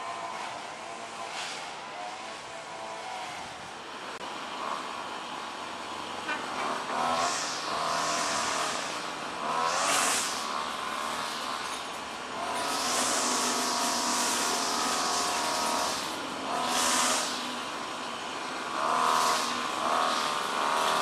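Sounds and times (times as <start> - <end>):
vehicles passing with hiss: 0.0 - 21.0.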